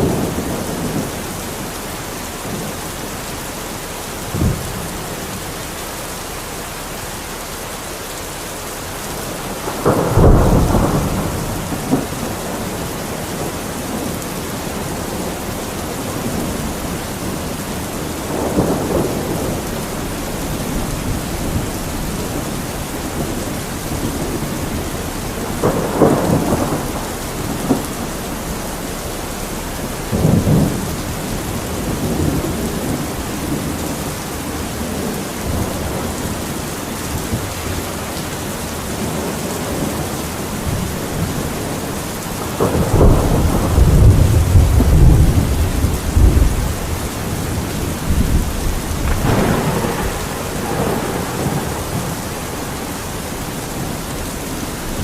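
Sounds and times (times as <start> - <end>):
steady rain: 0.0 - 55.0
thunder rumbling: 0.0 - 55.0.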